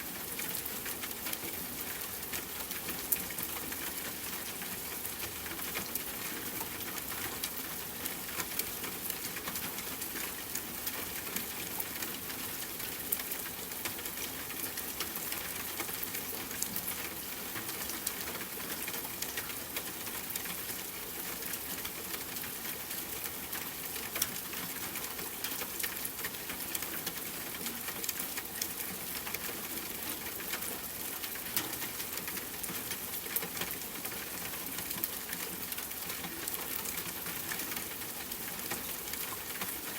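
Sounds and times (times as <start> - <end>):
rain pattering on tent fabric: 0.0 - 39.9.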